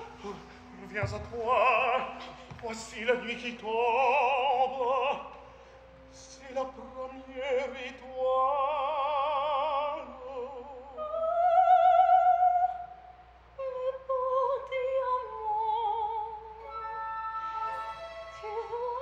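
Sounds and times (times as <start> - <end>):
operatic soprano singing: 0.0 - 19.0.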